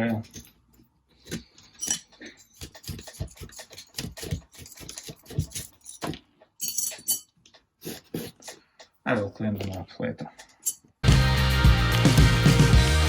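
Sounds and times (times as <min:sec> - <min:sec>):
small parts clicking and knocking: 0:00.0 - 0:11.0.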